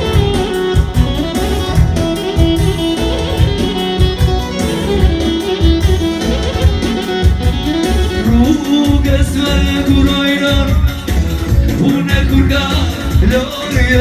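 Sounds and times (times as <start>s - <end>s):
violin melody: 0.0s - 11.9s
guitar: 0.0s - 14.0s
heavy bass beat: 0.0s - 14.0s.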